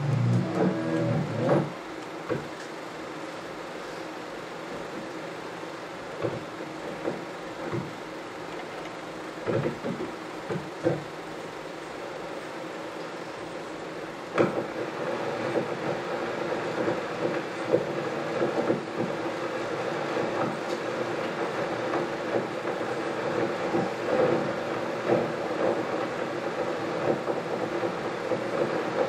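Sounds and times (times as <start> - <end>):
film projector humming and clattering: 0.0 - 29.0.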